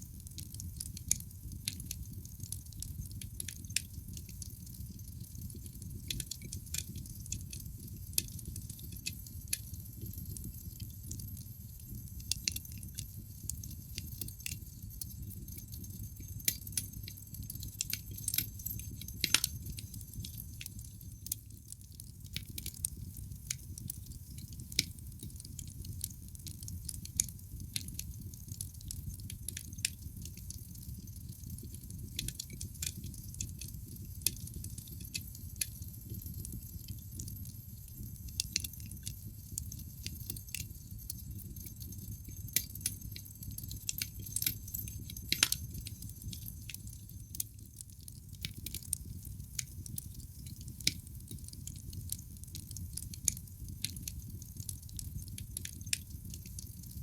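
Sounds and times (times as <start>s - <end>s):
burning logs crackling: 0.0s - 57.0s
low rumble of flames: 0.0s - 57.0s.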